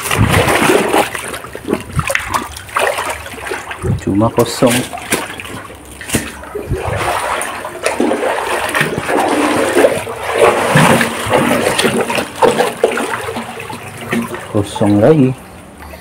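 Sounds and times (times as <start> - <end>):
river water churning and sloshing: 0.0 - 16.0.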